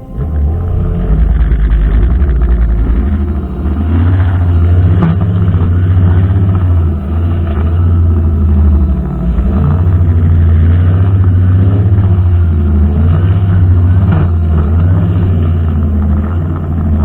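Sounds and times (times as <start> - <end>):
brushcutter engine droning: 0.0 - 17.0.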